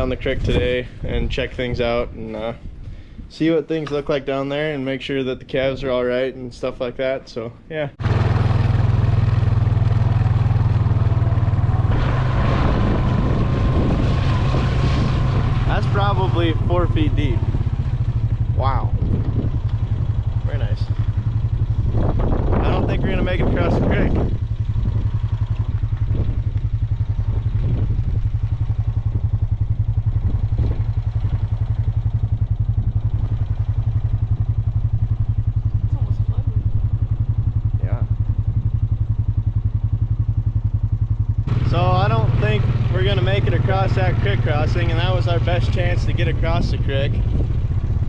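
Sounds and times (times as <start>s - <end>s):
vehicle engine running: 0.0s - 3.2s, 7.9s - 48.0s.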